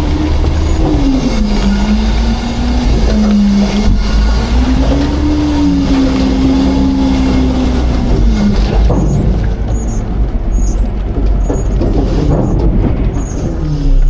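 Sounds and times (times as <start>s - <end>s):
garbage truck diesel engine: 0.0s - 14.0s
hydraulic whine: 0.0s - 14.0s
trash crackling while compacting: 0.0s - 14.0s.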